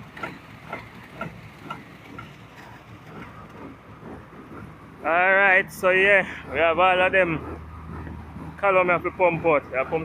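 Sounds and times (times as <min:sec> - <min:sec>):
machinery running low: 0:00.0 - 0:10.0.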